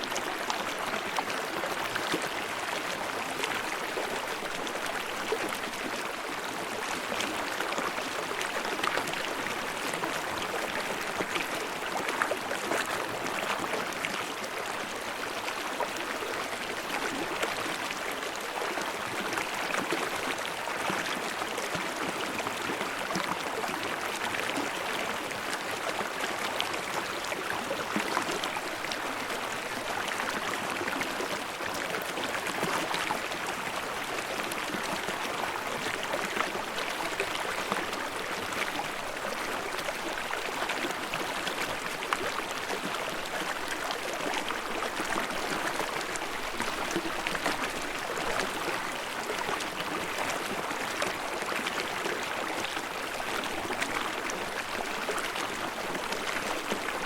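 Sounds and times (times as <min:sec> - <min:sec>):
stream babbling and splashing: 0:00.0 - 0:57.0.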